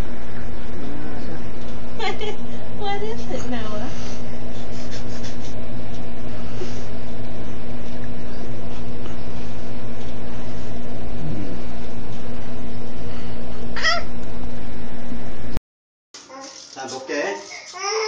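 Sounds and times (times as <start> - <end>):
machine hum: 0.0 - 15.6.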